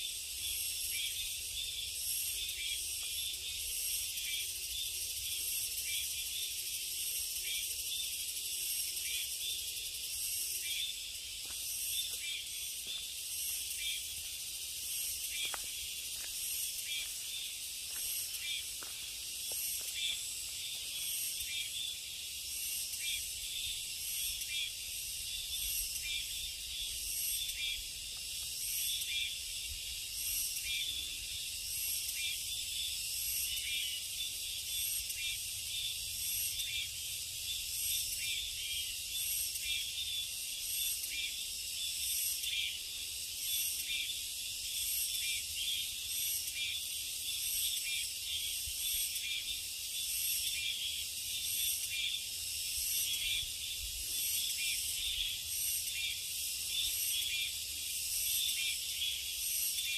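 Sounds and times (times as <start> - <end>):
insects shrilling: 0.0 - 59.9.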